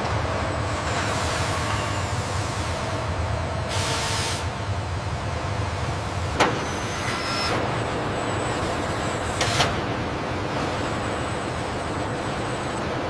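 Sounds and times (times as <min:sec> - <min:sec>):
assembly line machinery running: 0:00.0 - 0:13.0.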